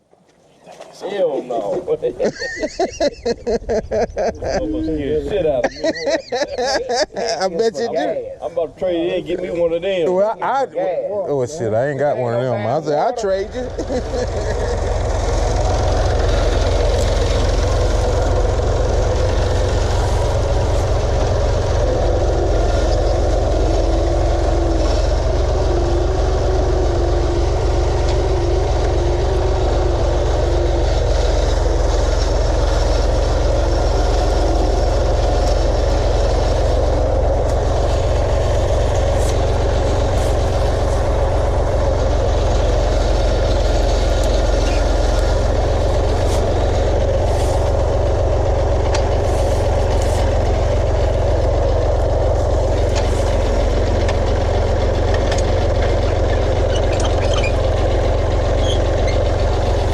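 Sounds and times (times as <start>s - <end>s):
engine running steadily: 1.1s - 59.9s.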